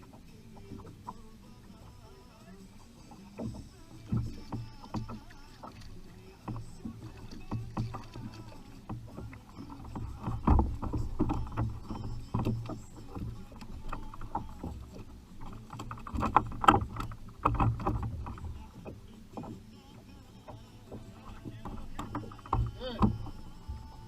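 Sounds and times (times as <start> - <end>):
knocks and bumps on kayak: 0.0 - 2.0, 2.7 - 24.0.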